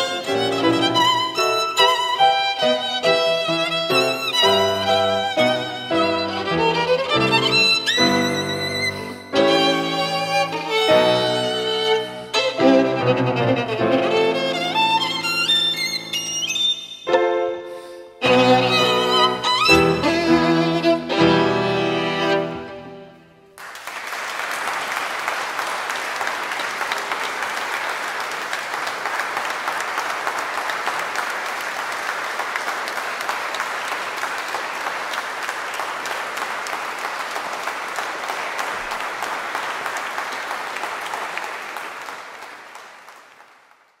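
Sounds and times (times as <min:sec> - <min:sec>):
audience applauding: 0:00.0 - 0:12.6, 0:14.1 - 0:16.7, 0:23.6 - 0:44.0.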